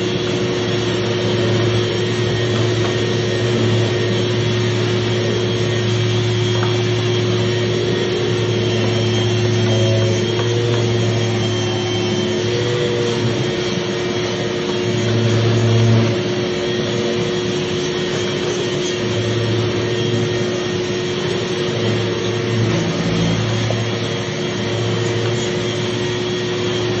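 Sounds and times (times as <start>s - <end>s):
machine motor whining and humming: 0.0s - 27.0s.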